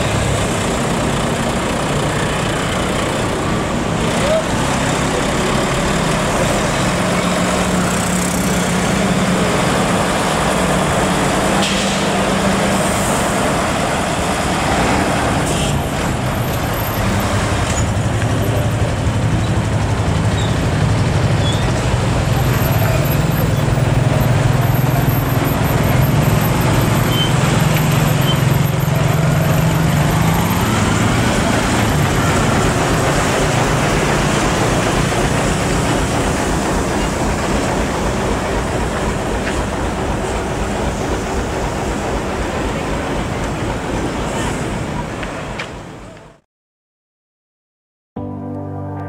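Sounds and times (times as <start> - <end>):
truck diesel engine humming: 0.0 - 46.3
road traffic noise: 0.0 - 46.4.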